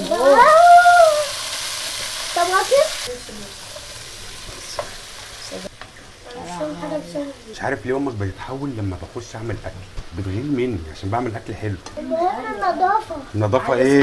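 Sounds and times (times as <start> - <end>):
peppers sizzling in hot oil: 0.0 - 14.0.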